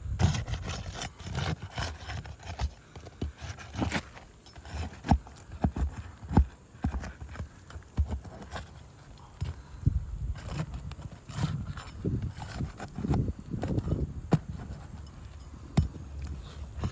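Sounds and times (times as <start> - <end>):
tools scraping roof shingles: 0.0 - 16.9.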